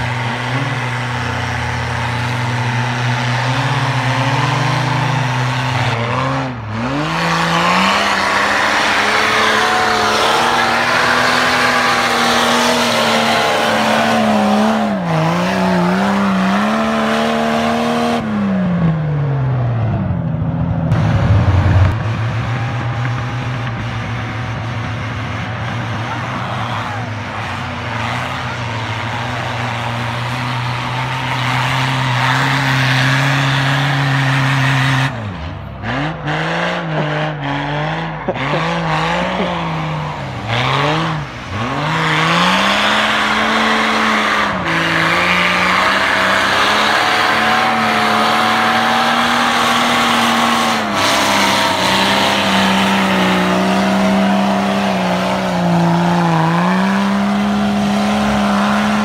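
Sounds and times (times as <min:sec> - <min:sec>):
engine revving hard: 0:00.0 - 0:18.8, 0:20.9 - 0:59.0.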